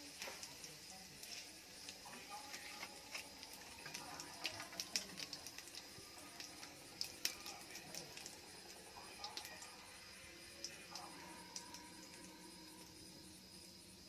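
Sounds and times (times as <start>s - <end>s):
small crackles and pops: 0.0s - 9.8s, 10.5s - 13.0s
hot oil bubbling and sizzling: 0.0s - 14.0s.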